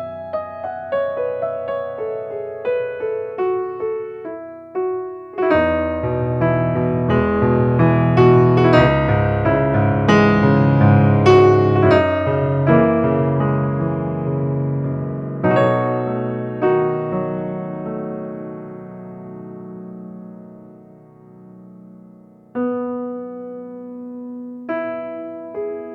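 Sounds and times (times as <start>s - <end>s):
piano music: 0.0s - 25.9s.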